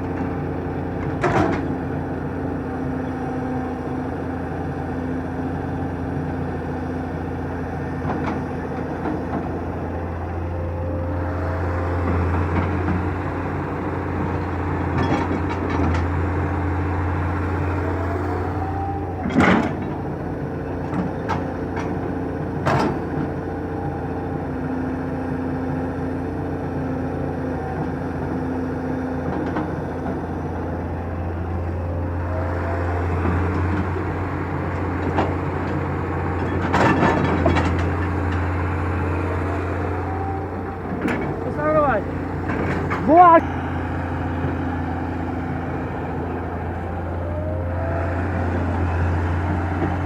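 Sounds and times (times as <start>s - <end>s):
excavator diesel engine humming: 0.0s - 50.0s.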